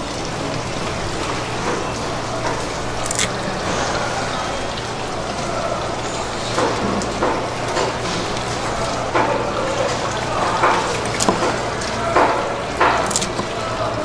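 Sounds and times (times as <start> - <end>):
running water hiss: 0.0 - 14.0.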